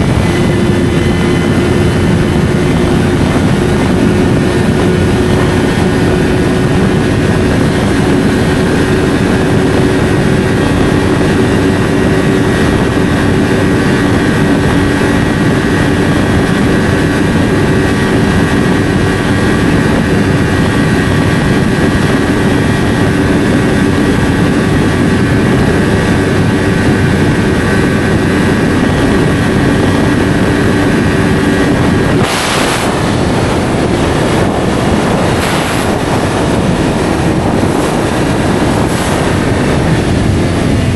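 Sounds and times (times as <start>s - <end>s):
motorcycle engine running steadily: 0.0s - 40.9s
wind noise rushing: 0.0s - 40.9s.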